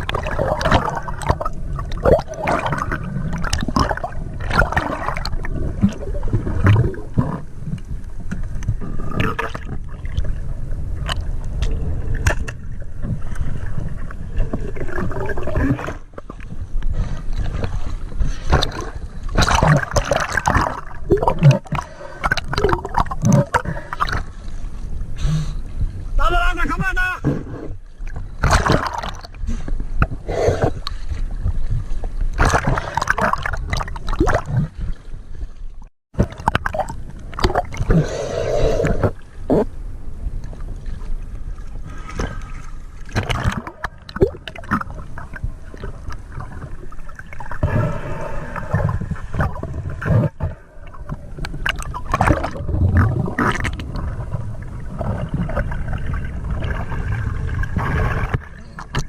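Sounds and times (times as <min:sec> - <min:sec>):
water gurgling and sloshing: 0:00.0 - 0:59.0.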